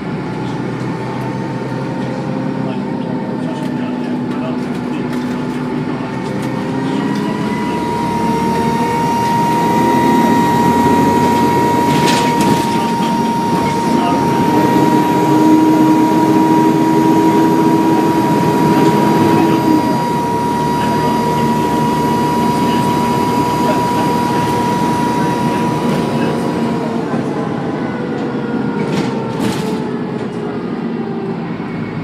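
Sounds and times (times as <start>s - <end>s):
bus diesel engine: 0.0s - 32.0s
turbo whine: 5.6s - 32.0s.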